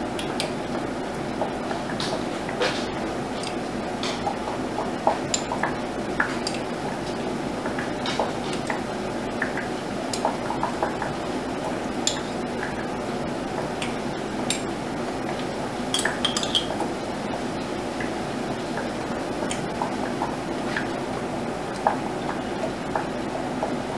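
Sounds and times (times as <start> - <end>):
steady background noise: 0.0 - 23.9.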